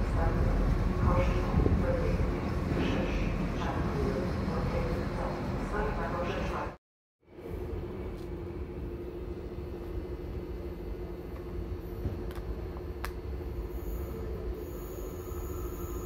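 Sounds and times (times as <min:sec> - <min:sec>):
train rumble and hum: 0:00.0 - 0:14.6.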